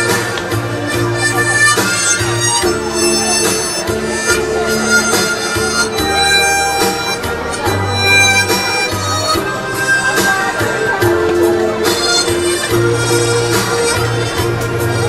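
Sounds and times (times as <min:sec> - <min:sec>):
backing track with bass and beat: 0:00.0 - 0:15.0
harmonica melody: 0:00.0 - 0:15.0.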